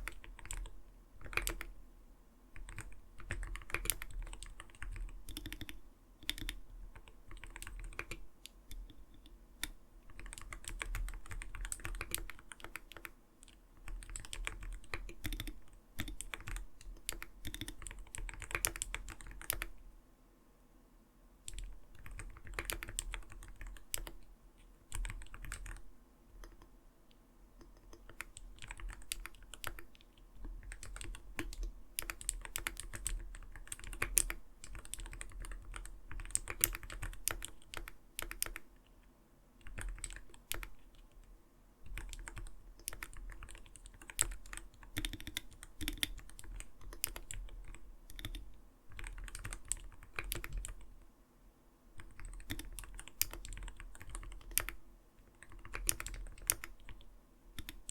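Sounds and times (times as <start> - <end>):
soft keyboard typing: 0.0 - 1.8, 2.5 - 19.8, 21.4 - 39.0, 39.6 - 51.1, 51.9 - 57.9.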